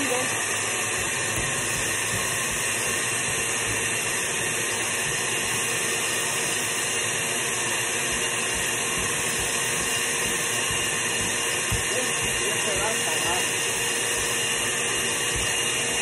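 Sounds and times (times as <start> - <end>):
electric blender running: 0.0 - 16.0.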